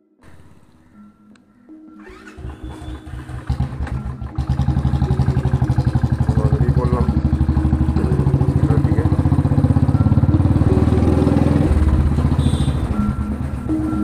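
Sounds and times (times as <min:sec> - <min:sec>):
motorcycle engine running: 0:02.0 - 0:14.0.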